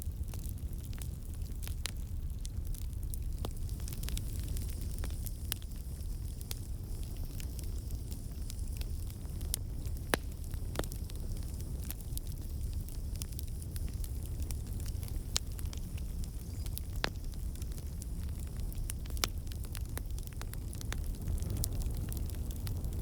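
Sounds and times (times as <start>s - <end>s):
campfire rumbling: 0.0s - 23.0s
fire crackles and pops: 0.0s - 23.0s.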